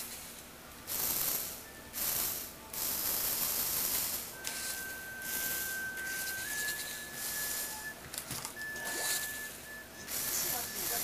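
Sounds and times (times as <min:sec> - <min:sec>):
thin high whine: 0:00.9 - 0:11.0
toy motor and gears whirring: 0:00.9 - 0:11.0.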